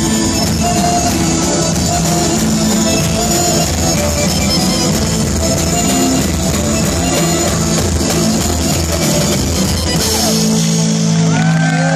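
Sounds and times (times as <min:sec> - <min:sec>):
accordion: 0:00.0 - 0:11.8
hand percussion: 0:00.0 - 0:11.8
drum kit: 0:00.0 - 0:11.9
electric guitar: 0:00.0 - 0:11.9.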